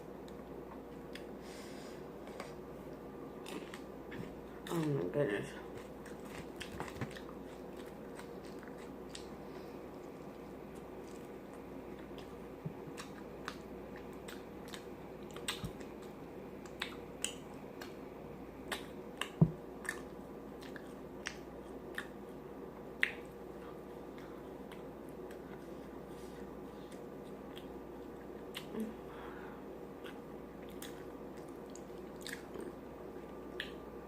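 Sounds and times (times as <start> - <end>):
faint steady hum: 0.0 - 34.0
chewing with wet smacks: 3.4 - 5.0, 5.6 - 18.0, 18.6 - 22.4, 23.0 - 28.8, 30.0 - 33.9.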